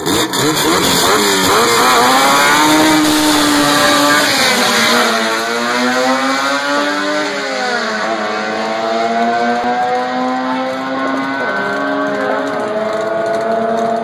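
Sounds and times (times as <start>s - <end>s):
car engines at full throttle: 0.0s - 14.0s.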